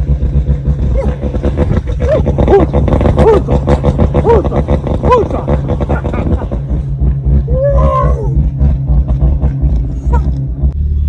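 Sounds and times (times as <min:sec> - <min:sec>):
car engine throttle blips: 0:00.0 - 0:11.0.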